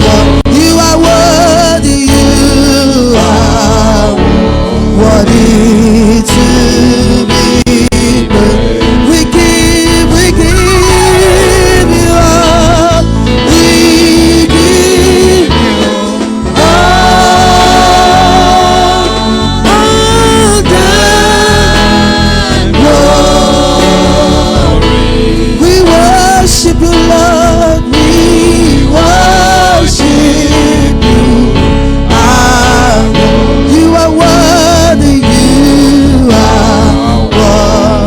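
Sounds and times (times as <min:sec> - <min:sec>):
band accompaniment: 0:00.0 - 0:38.0
gospel choir singing: 0:00.0 - 0:38.0.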